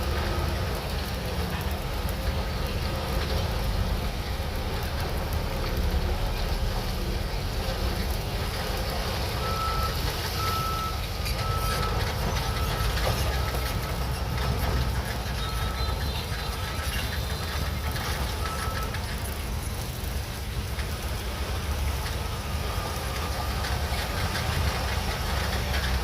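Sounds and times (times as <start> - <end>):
bulldozer diesel engine rumbling: 0.0 - 26.0
track clatter: 0.0 - 26.0.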